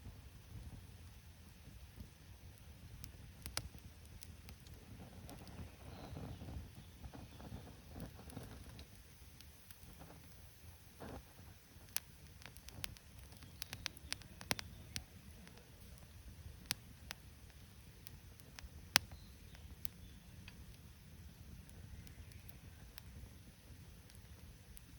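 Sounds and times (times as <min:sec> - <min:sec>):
campfire crackling and popping: 0:00.1 - 0:24.9.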